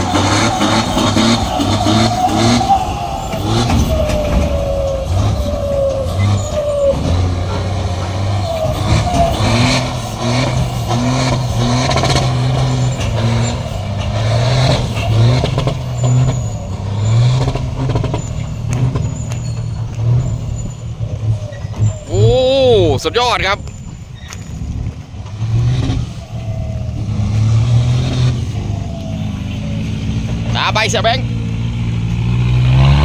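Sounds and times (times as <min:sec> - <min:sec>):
truck diesel engine straining: 0:00.0 - 0:33.0.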